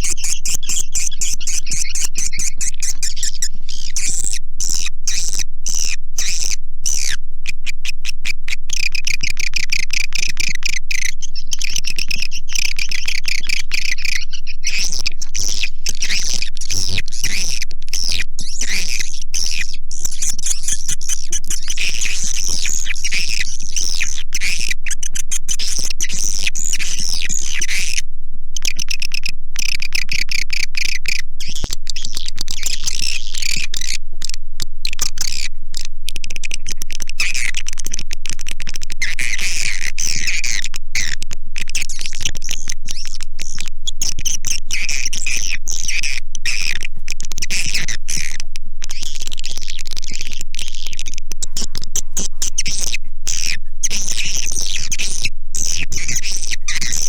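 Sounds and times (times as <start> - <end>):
swiftlets twittering and chirping: 0.0 - 28.0, 28.6 - 57.0.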